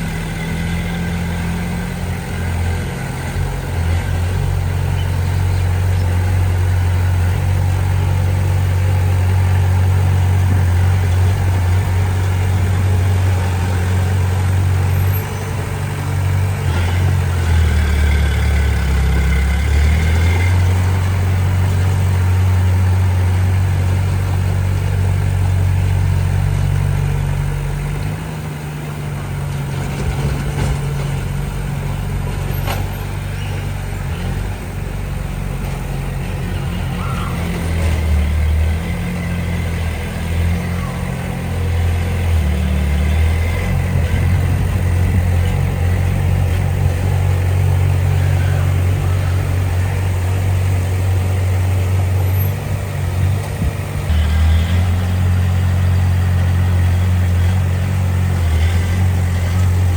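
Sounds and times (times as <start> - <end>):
heavy machinery diesel engine running: 0.0 - 59.9.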